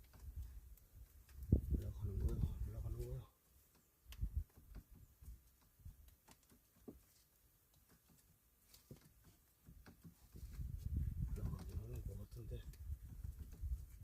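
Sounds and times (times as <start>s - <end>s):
faint clicks and knocks: 0.0s - 14.0s.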